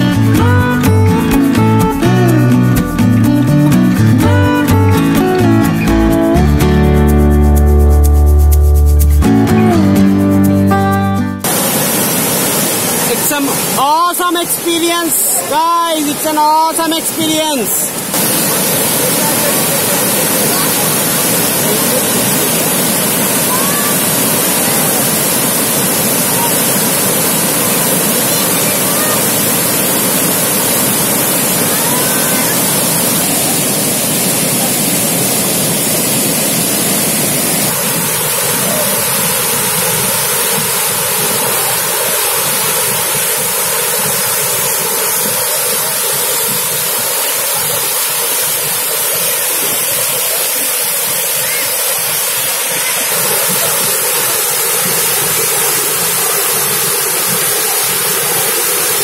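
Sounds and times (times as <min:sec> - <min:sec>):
waterfall rushing: 0:00.0 - 0:06.4, 0:11.4 - 0:59.0.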